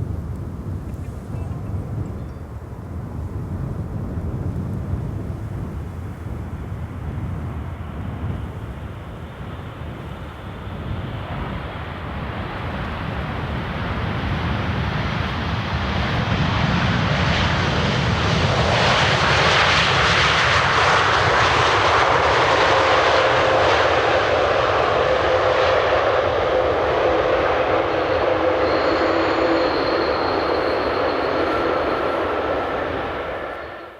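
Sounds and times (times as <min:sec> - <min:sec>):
jet engine whine: 0:00.0 - 0:33.9
jet airliner engines rushing: 0:02.8 - 0:33.9.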